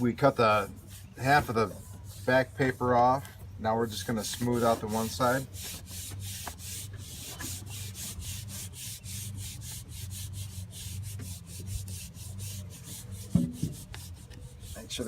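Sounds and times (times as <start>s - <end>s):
rubbing strokes on glass: 0.0s - 3.2s, 3.9s - 15.0s.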